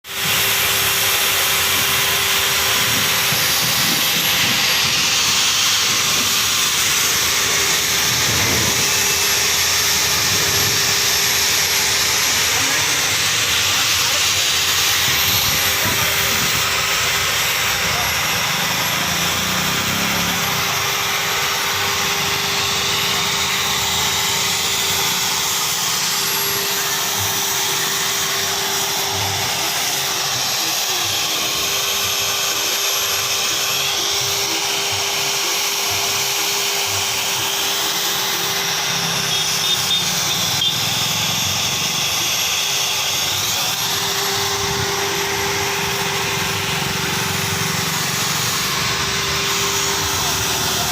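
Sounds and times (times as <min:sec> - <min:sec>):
loud machine noise: 0:00.0 - 0:50.9
constant hum: 0:00.2 - 0:50.9.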